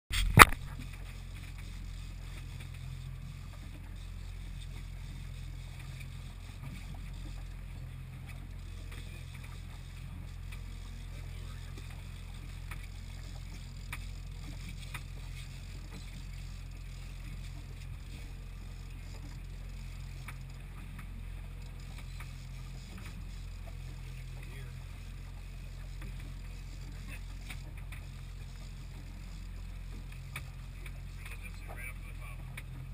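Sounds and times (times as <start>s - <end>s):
boat engine humming: 0.1s - 32.9s
faint clicks: 0.2s - 32.8s.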